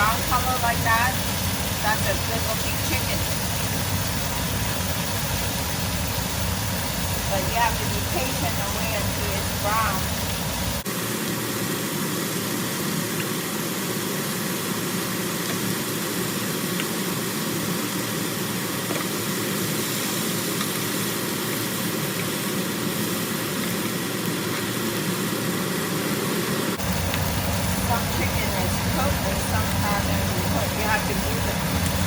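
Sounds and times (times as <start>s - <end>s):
chicken sizzling in a frying pan: 0.0s - 32.0s.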